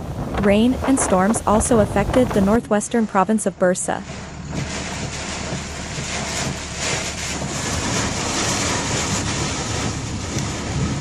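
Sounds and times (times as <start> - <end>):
heavy rain: 0.0 - 2.6, 4.0 - 11.0
storm wind gusting: 0.0 - 3.1, 3.9 - 11.0.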